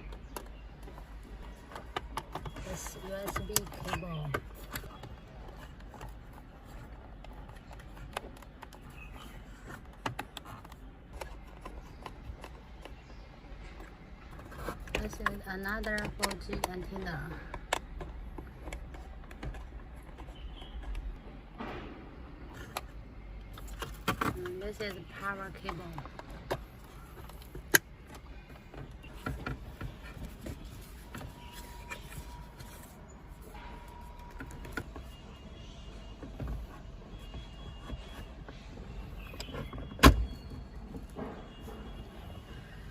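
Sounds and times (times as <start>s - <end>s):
plastic parts and cables clicking: 0.0s - 42.9s.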